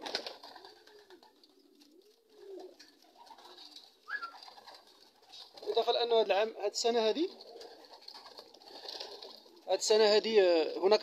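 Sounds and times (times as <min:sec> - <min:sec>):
pigeons cooing: 0:00.0 - 0:05.9, 0:07.3 - 0:10.3.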